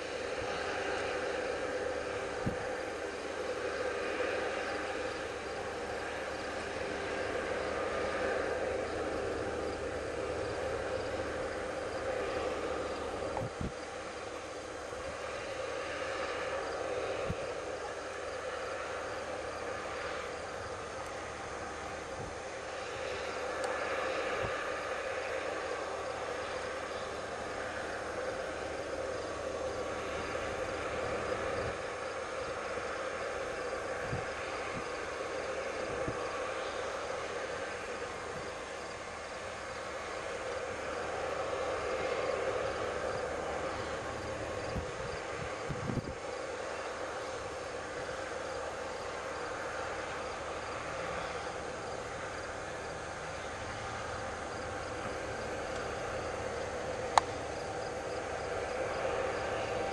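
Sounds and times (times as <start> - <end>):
faint insect chirping: 0.0 - 59.9
harvest machinery drone: 0.0 - 59.9.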